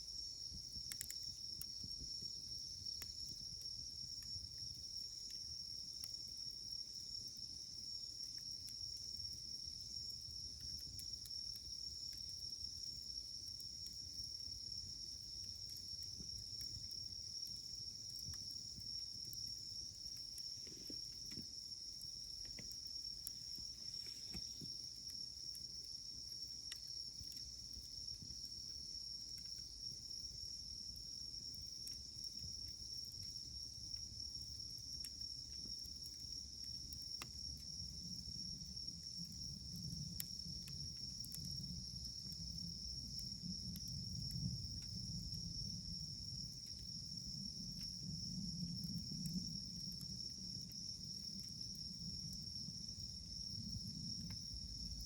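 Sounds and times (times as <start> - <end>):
campfire crackles: 0.0 - 55.0
insects chirring: 0.0 - 55.0.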